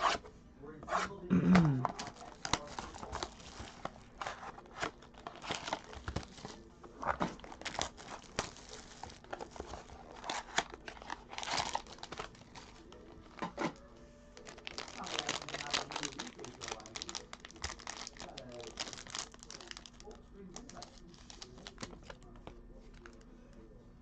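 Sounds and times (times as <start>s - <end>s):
plastic wrapping crinkling: 1.8s - 13.8s, 14.4s - 23.2s.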